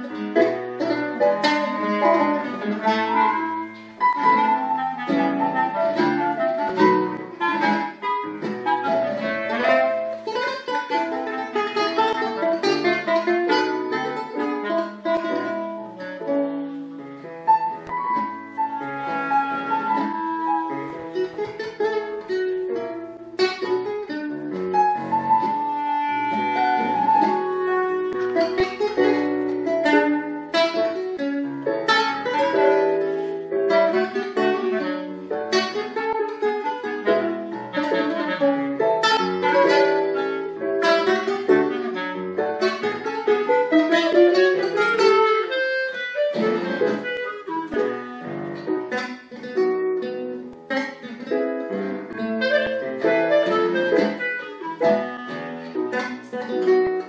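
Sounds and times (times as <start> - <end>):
clarinet melody: 0.0 - 57.0
keyboard chords: 0.0 - 57.0
plucked classical guitar: 0.0 - 57.0.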